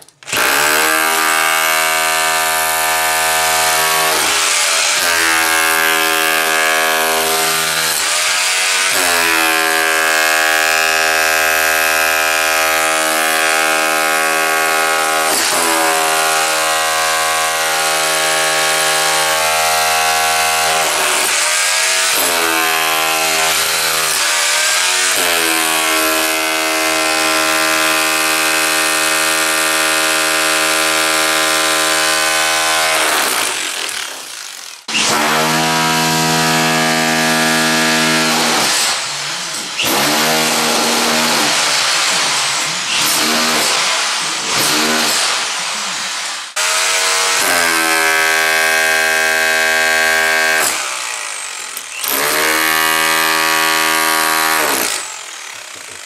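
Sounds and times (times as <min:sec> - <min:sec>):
demolition hammer pounding stone: 0:00.4 - 0:45.6, 0:46.6 - 0:56.0.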